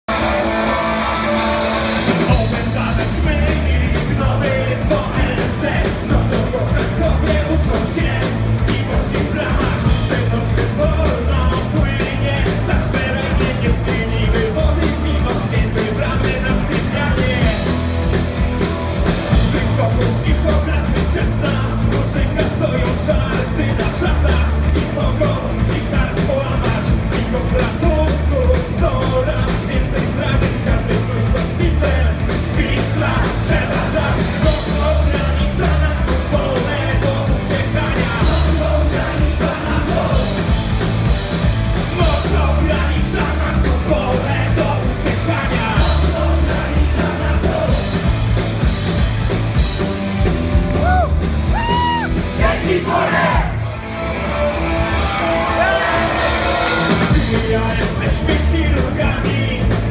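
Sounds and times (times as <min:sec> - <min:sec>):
punk rock band playing: 0:00.0 - 0:59.9
man singing lead vocal: 0:02.1 - 0:17.9, 0:19.3 - 0:40.9, 0:41.7 - 0:48.4, 0:51.6 - 0:53.6, 0:55.4 - 0:59.9.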